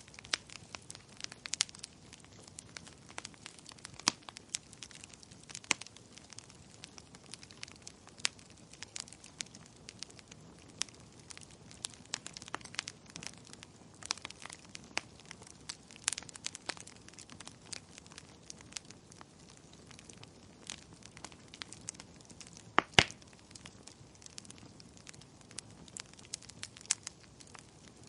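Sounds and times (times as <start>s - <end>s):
fire popping and snapping: 0.0s - 28.0s
wood fire crackling: 0.0s - 28.0s.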